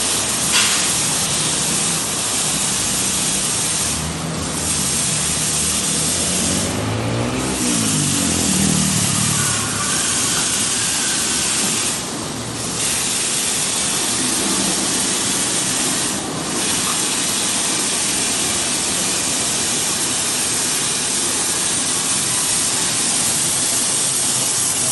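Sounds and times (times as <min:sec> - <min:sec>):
car wash spray and blown air: 0:00.0 - 0:24.9.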